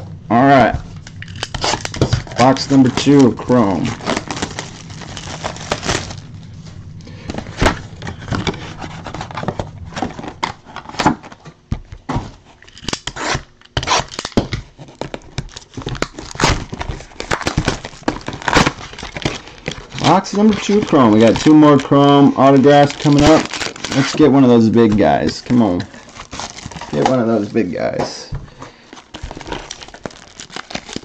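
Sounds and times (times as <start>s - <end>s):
plastic wrapping crinkling: 0.5s - 31.0s.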